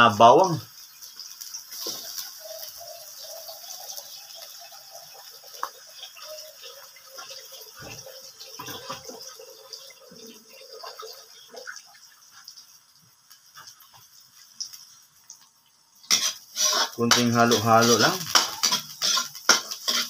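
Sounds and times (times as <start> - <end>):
onion and garlic sizzling: 0.0 - 20.0.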